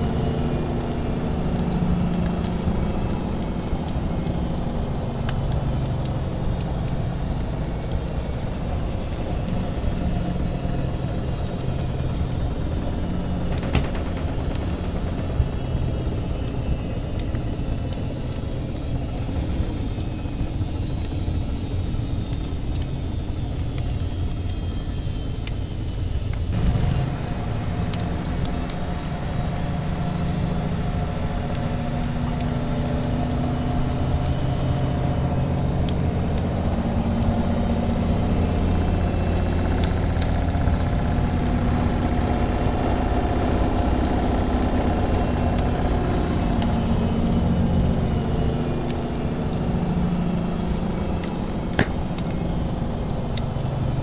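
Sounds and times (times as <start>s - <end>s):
washing machine motor hum: 0.0s - 23.5s, 26.5s - 54.0s
wood fire crackling: 0.0s - 54.0s.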